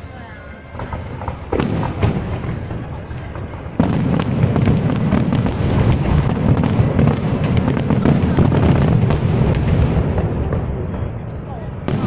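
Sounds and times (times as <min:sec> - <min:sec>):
fireworks bursts and crackles: 0:00.0 - 0:12.0
rumble of firework booms: 0:00.7 - 0:12.0.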